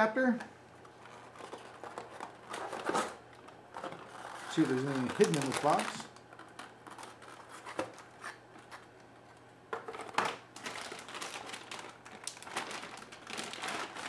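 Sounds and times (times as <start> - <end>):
plastic bag crinkling: 0.9 - 8.8, 9.9 - 14.0.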